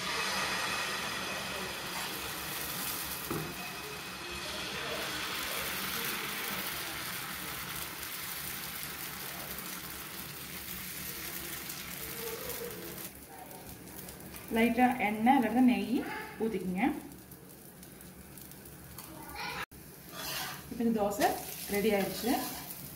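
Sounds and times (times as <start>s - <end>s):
batter sizzling on a hot griddle: 0.0s - 22.9s.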